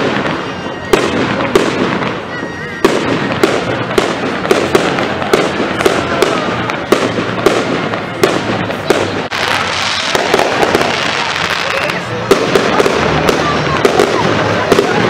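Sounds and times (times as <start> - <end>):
continuous rumble: 0.0 - 15.0
fireworks bangs and crackles: 0.0 - 15.0.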